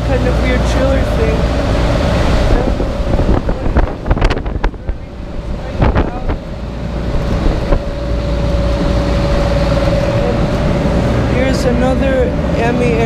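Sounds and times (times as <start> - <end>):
air-conditioning machine humming: 0.0 - 13.0
wind buffeting microphone: 0.0 - 13.0.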